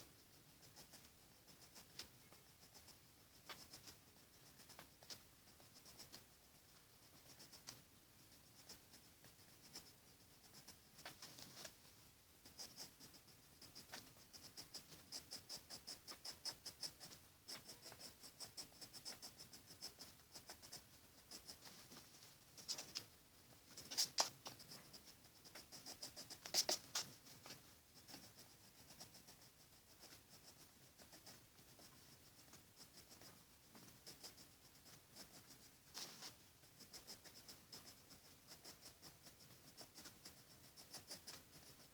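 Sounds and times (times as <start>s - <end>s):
pencil scratching on paper: 0.0s - 41.9s.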